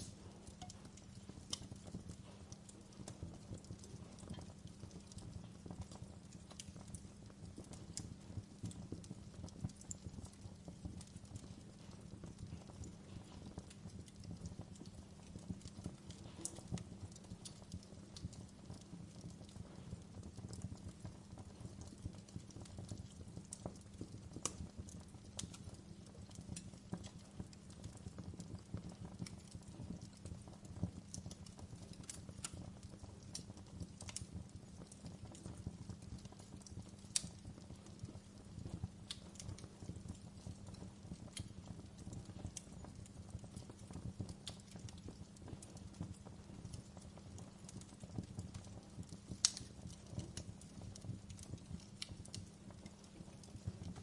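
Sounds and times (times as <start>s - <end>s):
fire low rumble: 0.0s - 54.0s
wood fire crackling: 0.0s - 54.0s.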